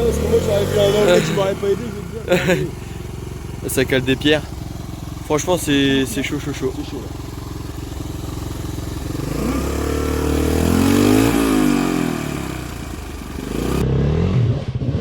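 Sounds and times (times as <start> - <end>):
off-road motorcycle engine revving: 0.0 - 15.0.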